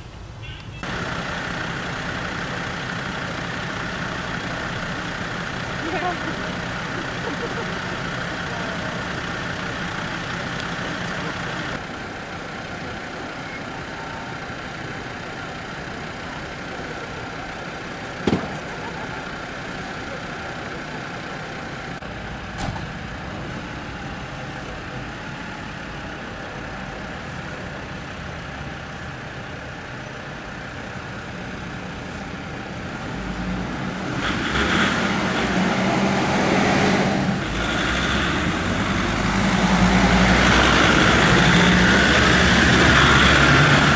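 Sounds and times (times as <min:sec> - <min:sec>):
fire engine running: 0:00.0 - 0:43.9.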